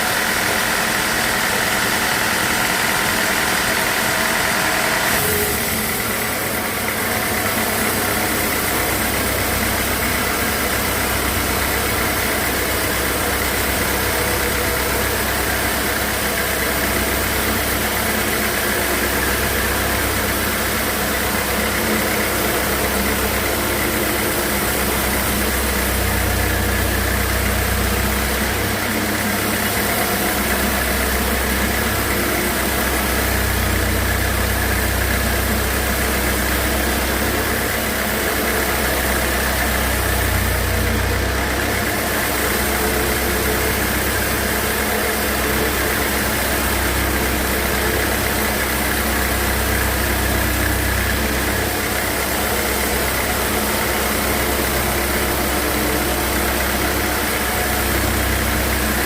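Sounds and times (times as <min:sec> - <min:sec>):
sawmill motor drone: 0:00.0 - 0:59.0.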